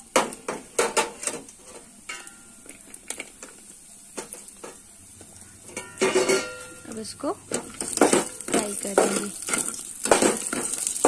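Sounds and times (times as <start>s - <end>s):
dried fruit frying in ghee: 0.0s - 11.0s.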